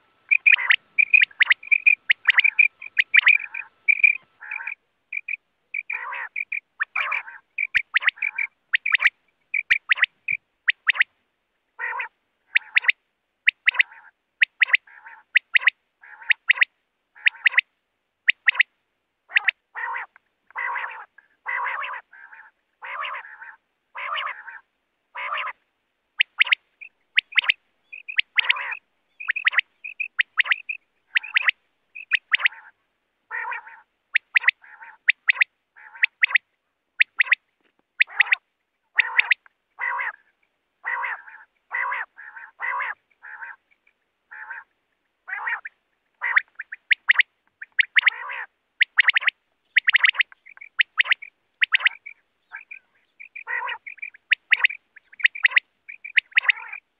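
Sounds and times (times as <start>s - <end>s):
quail calling: 0.0s - 11.1s, 11.8s - 17.7s, 18.3s - 18.7s, 19.3s - 25.6s, 26.2s - 37.4s, 38.0s - 56.9s.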